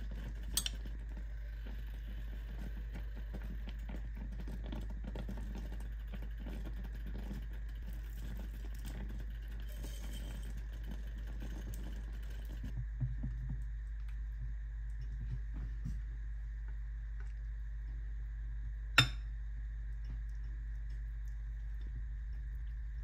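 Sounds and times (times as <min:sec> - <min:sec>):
broth simmering and crackling: 0:00.0 - 0:23.0
steady low hum: 0:00.0 - 0:23.0.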